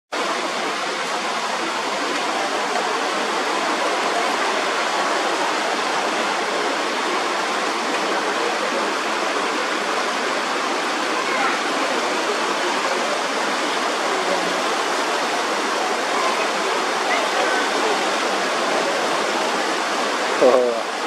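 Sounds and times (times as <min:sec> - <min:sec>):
river water rushing over rocks: 0:00.2 - 0:21.0.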